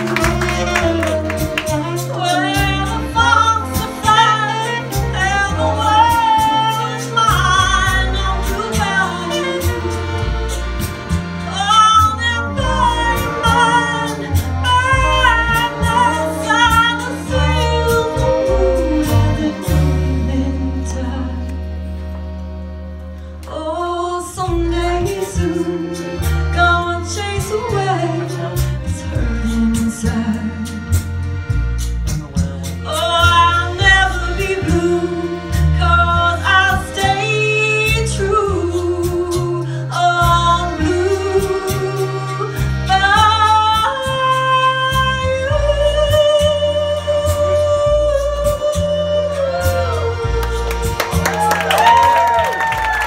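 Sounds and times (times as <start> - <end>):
woman singing with vibrato: 0.0 - 10.2, 11.5 - 21.6, 23.5 - 31.1, 32.8 - 53.0
accordion: 0.0 - 53.0
horns: 0.0 - 53.0
upright bass walking line: 0.0 - 53.0.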